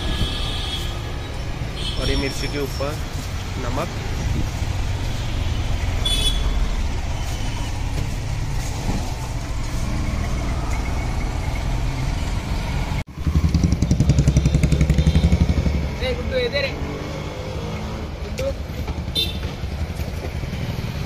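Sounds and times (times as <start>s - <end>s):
engines rumbling: 0.0s - 21.0s.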